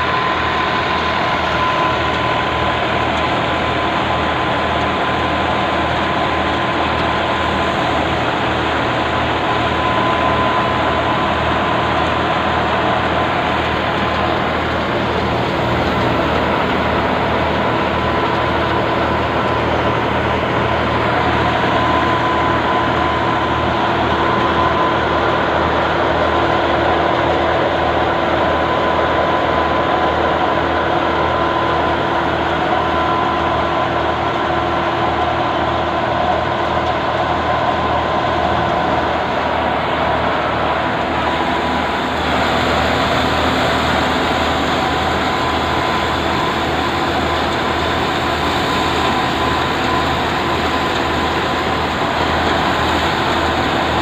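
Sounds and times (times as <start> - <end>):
diesel tractor engine running: 0.0 - 54.0
steady high whine: 0.0 - 54.0
threshing machine rumble: 0.0 - 54.0.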